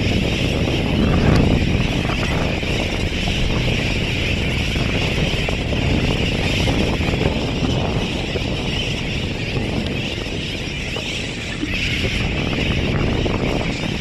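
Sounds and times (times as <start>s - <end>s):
wind buffeting a microphone: 0.0s - 14.0s.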